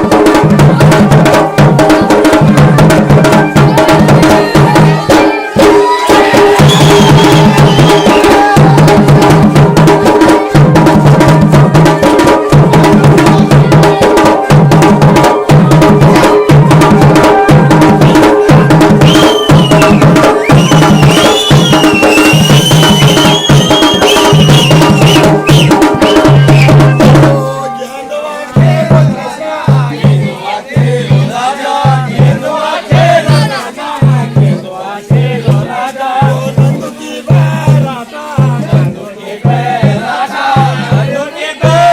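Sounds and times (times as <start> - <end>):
drums playing fast rhythm: 0.0 - 41.9.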